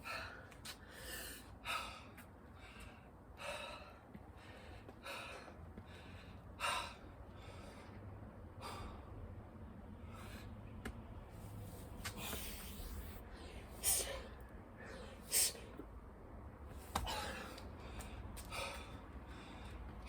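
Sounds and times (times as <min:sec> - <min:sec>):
person breathing hard: 0:00.0 - 0:10.7, 0:12.1 - 0:15.8, 0:17.0 - 0:20.0.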